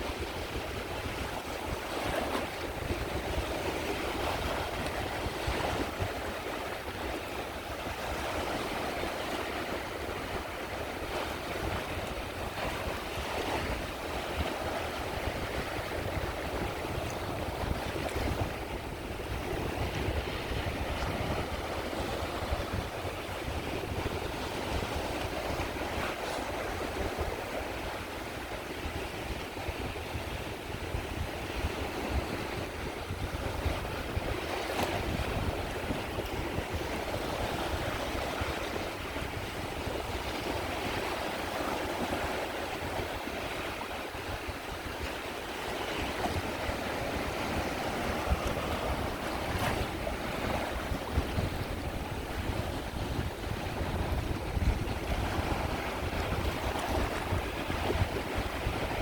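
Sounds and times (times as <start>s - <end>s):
sea waves washing onto shore: 0.0s - 59.0s
wind buffeting microphone: 0.0s - 59.0s.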